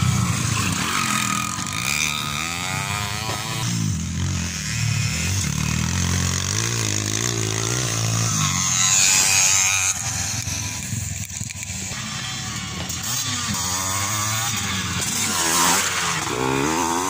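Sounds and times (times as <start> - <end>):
motocross motorcycle engines revving: 0.0 - 17.0.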